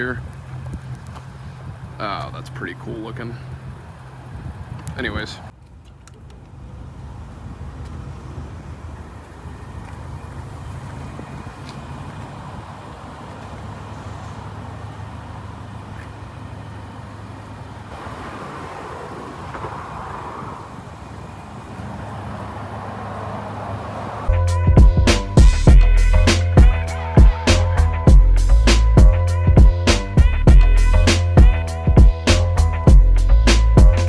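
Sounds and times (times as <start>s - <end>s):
car engine drone from inside cabin: 0.0s - 5.5s, 6.4s - 24.4s, 25.4s - 29.8s
tyre and road noise: 0.0s - 34.0s.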